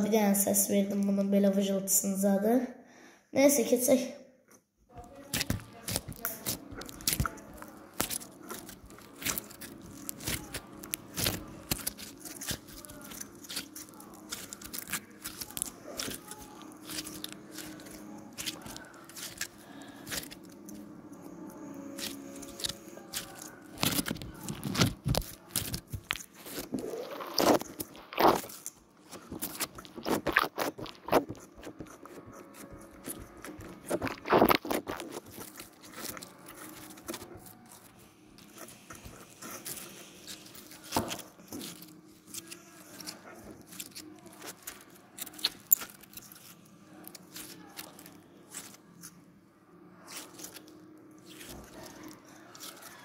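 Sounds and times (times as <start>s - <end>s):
slime squelching by hand: 5.0s - 53.0s.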